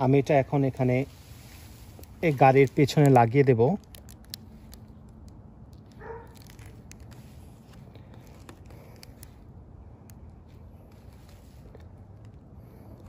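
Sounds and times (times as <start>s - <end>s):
outdoor background noise: 0.0s - 13.0s
plastic clicks and crinkles: 2.0s - 13.0s.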